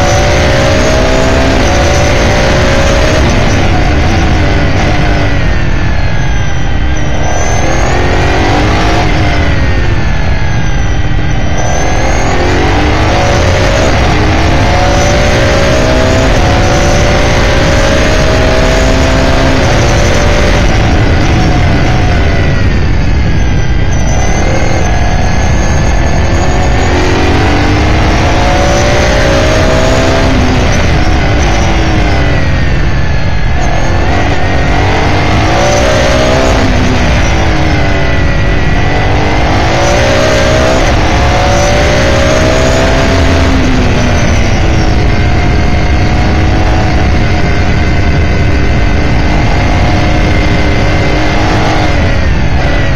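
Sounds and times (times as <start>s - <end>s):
race car engine revving through gears: 0.0s - 52.9s.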